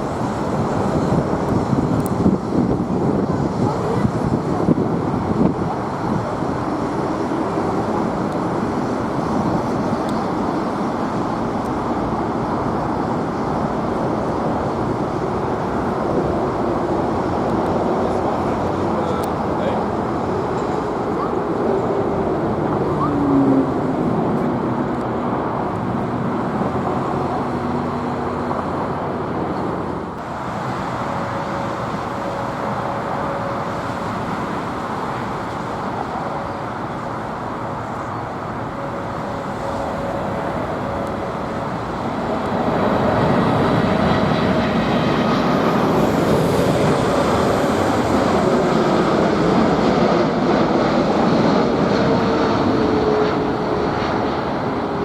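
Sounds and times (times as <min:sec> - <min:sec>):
faint engine whines: 0:00.0 - 0:55.0
jet engines running: 0:00.0 - 0:55.0.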